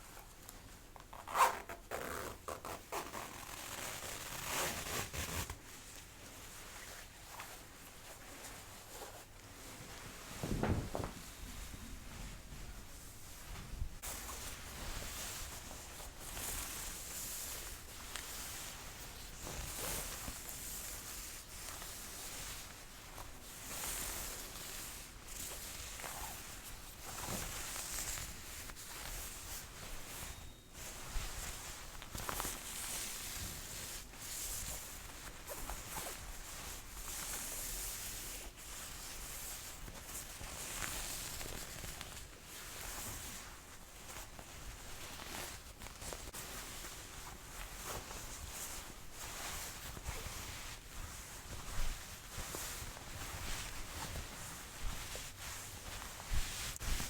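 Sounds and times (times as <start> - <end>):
fabric rustling: 0.0 - 57.0.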